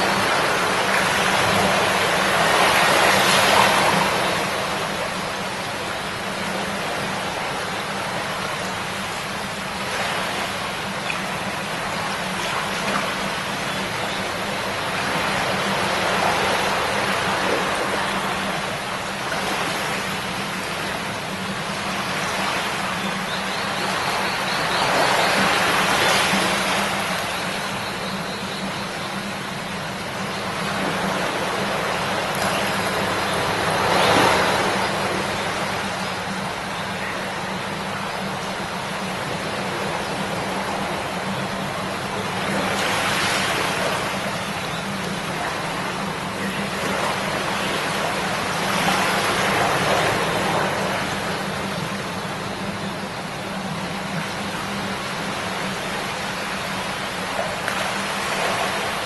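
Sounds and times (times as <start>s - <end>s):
river babbling: 0.0s - 59.0s.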